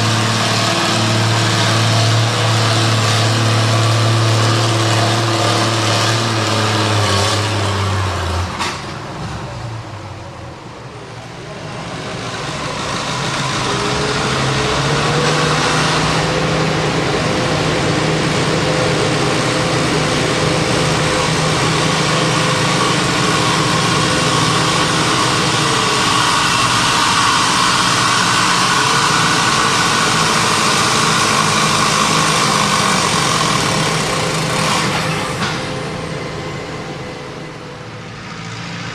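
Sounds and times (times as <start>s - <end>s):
tractor engine running hard: 0.0s - 38.9s.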